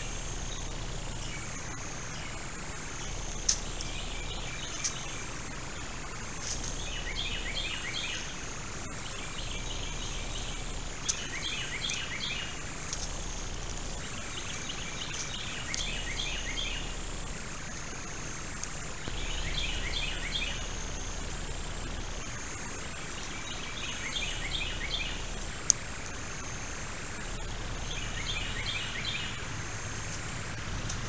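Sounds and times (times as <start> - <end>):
high insect drone: 0.0 - 31.0
sharp high ticks: 0.0 - 31.0
songbird trilling: 0.0 - 31.0.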